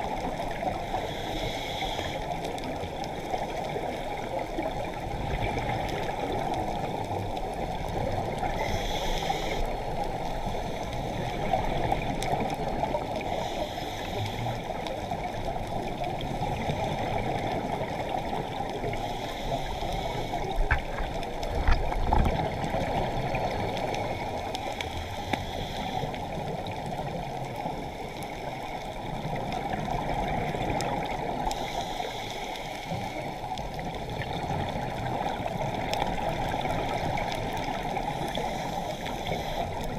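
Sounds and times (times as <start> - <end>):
underwater rushing and gurgling: 0.0 - 39.9.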